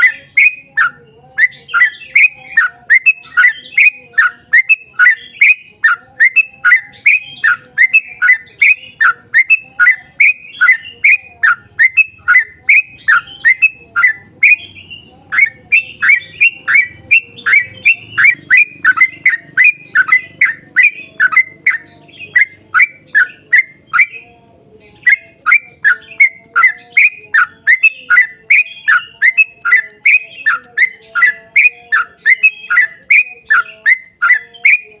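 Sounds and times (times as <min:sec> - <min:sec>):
bird calling rapid sharp notes: 0:00.0 - 0:35.0.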